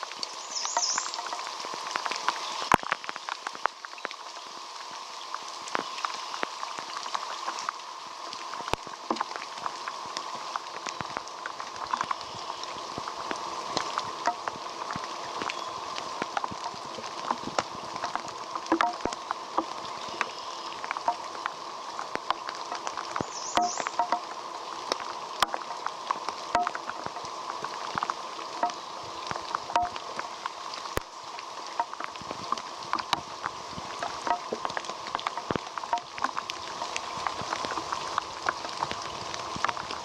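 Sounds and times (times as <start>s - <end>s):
rain falling: 0.0s - 40.0s
raindrops tapping on a surface: 0.0s - 40.0s.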